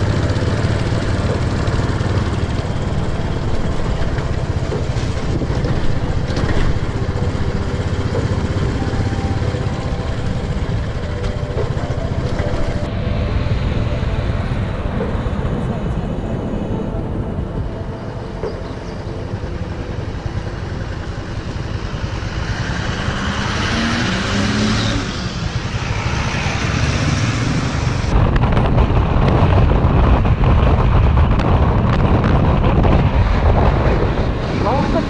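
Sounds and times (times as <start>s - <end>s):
truck passing: 0.0s - 35.0s
vehicle engine and road noise: 0.0s - 35.0s.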